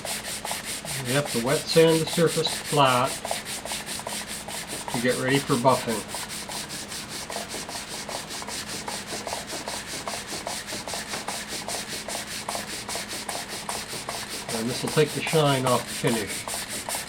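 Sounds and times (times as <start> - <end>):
wet sandpaper rubbing on wood: 0.0 - 17.0.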